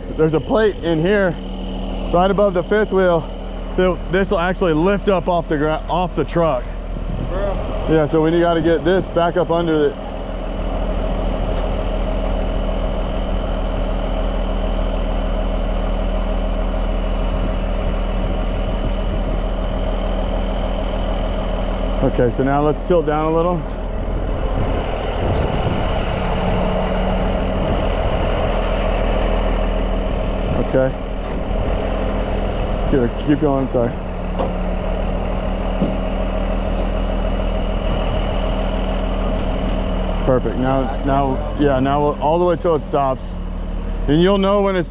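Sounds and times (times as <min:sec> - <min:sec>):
heavy truck engine running: 0:00.0 - 0:44.9
hydraulic whine: 0:00.0 - 0:44.9.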